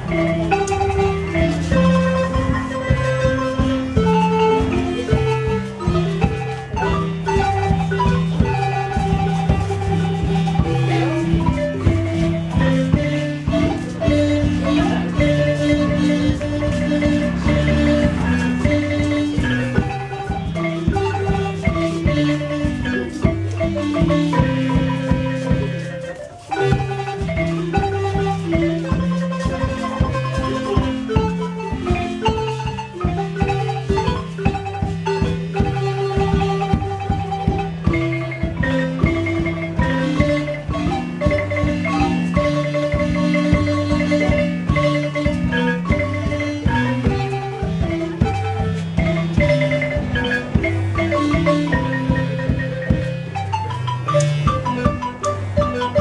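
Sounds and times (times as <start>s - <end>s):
marimba music: 0.0s - 56.0s.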